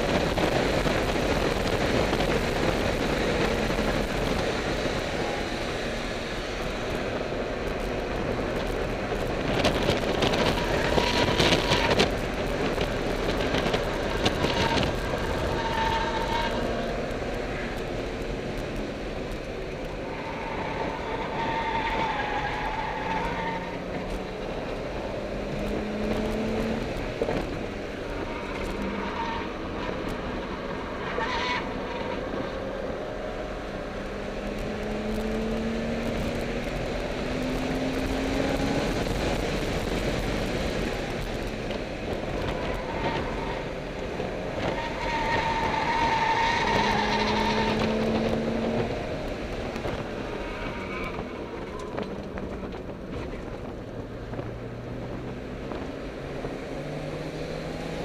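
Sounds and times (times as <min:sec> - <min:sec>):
car engine pulling through gears: 0:00.0 - 0:58.0
road and wind noise: 0:00.0 - 0:58.0.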